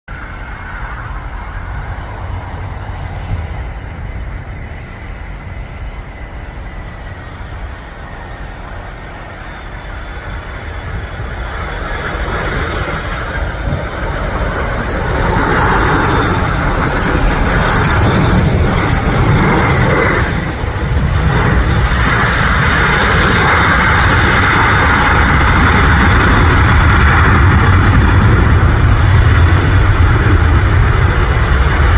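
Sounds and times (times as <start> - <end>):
deep rumble: 0.0 - 31.9
faint high jet whine: 0.1 - 31.9
jet engines roaring: 0.1 - 31.9.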